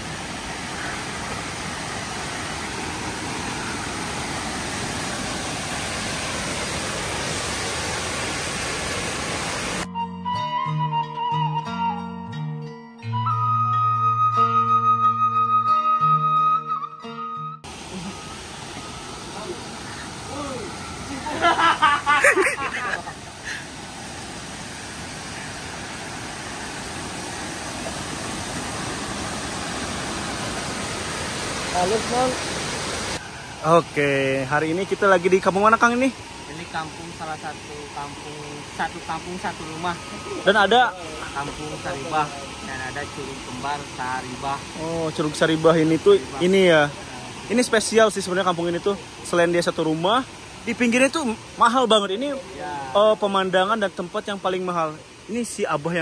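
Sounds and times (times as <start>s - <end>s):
waterfall rushing: 0.0s - 9.9s, 17.6s - 56.0s.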